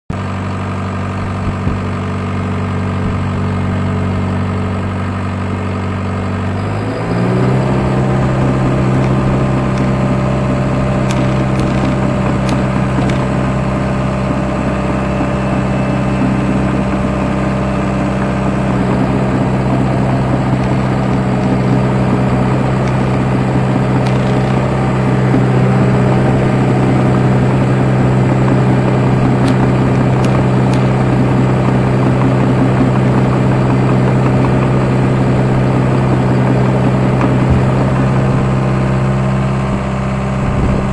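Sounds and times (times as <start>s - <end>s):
dozer diesel engine revving: 0.7s - 40.9s.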